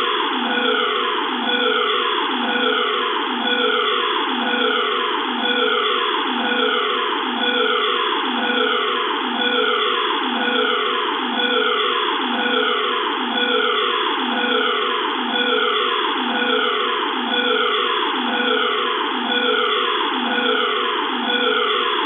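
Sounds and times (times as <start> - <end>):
electronic siren alarm: 0.0 - 22.0.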